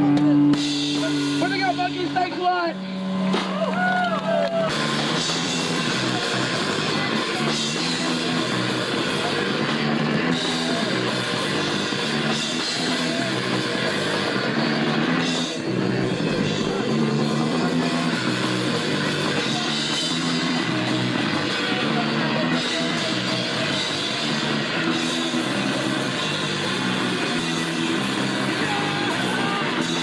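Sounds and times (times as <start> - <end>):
drum kit: 0.0 - 30.0
electric guitar: 0.0 - 30.0
rock band playing live: 0.0 - 30.0.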